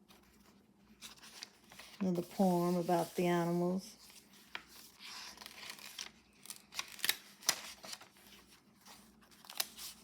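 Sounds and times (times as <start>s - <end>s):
paper pages rustling: 0.0s - 10.0s.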